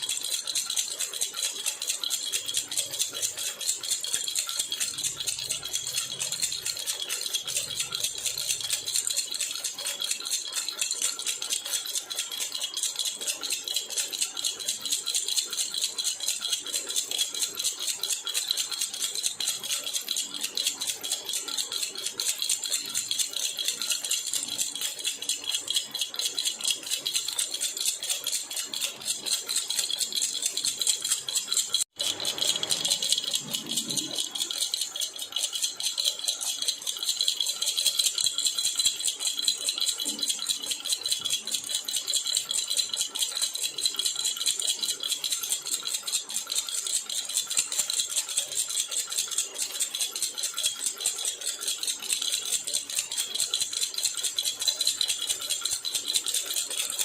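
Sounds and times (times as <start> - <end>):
metal baby rattle jingling: 0.0 - 57.0.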